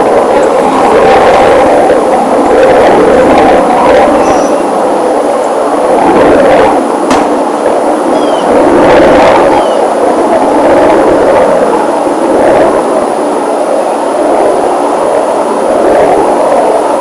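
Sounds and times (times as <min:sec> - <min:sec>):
aircraft flying over: 0:00.0 - 0:17.0.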